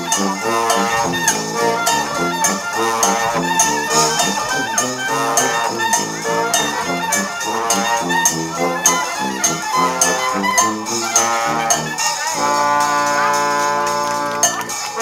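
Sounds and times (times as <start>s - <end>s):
sousaphone bass: 0.0s - 14.8s
dixieland band playing: 0.0s - 15.0s
regular tapping beat: 0.0s - 15.0s.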